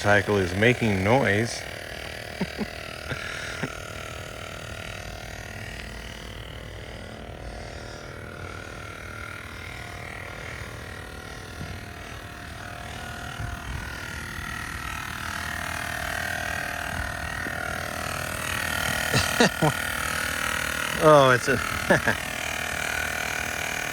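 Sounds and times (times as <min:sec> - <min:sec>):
air compressor running: 0:00.0 - 0:23.9.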